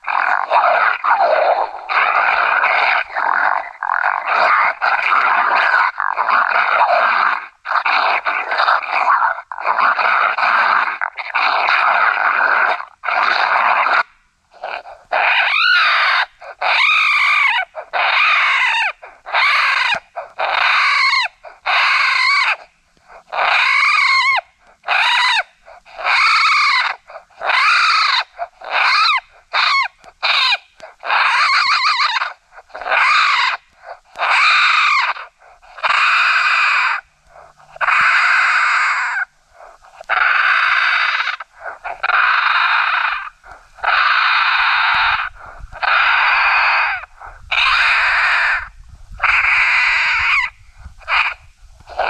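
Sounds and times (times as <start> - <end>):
squalling raccoon fight cries: 0.0 - 52.0.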